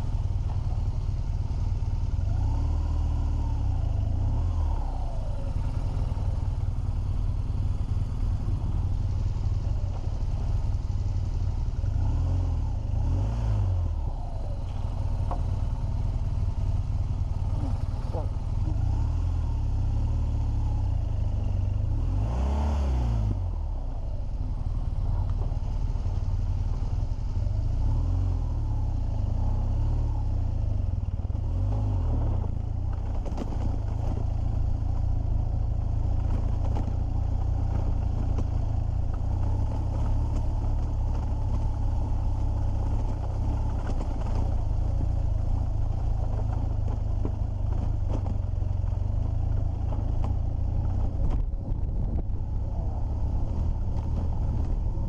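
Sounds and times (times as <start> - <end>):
motorcycle engine: 0.0 - 22.2, 23.3 - 55.0.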